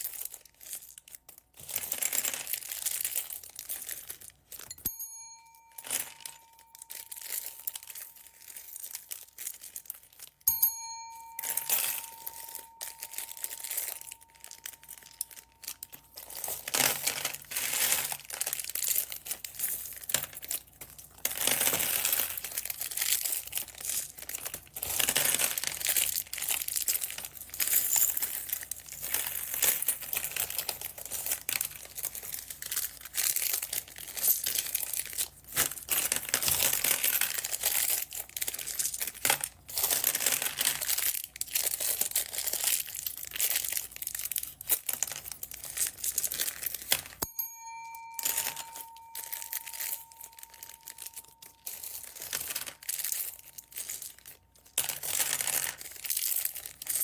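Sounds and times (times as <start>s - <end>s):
plastic bags crinkling: 0.0s - 4.8s, 5.4s - 57.0s.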